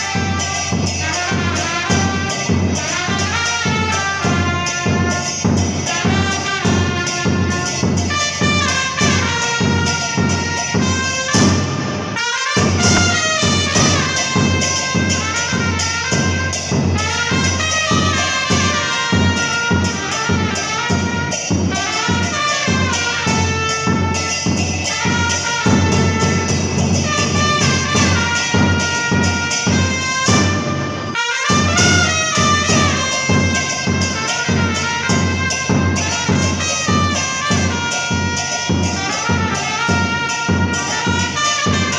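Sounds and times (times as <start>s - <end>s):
trumpets playing melody: 0.0s - 41.9s.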